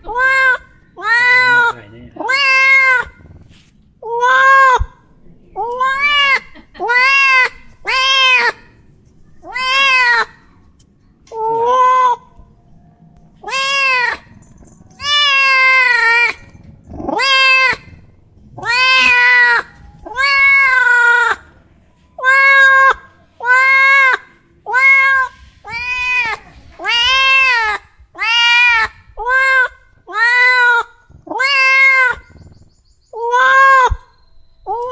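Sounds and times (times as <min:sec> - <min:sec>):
cat meowing: 0:00.0 - 0:05.0, 0:05.6 - 0:10.6, 0:11.3 - 0:12.5, 0:13.4 - 0:21.6, 0:22.2 - 0:32.6, 0:33.2 - 0:34.1, 0:34.7 - 0:34.9.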